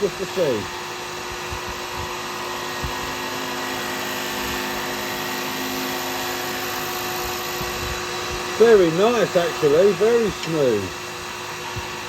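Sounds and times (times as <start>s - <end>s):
cutter hiss shaving resin: 0.0s - 12.0s
lathe motor hum: 0.0s - 12.0s.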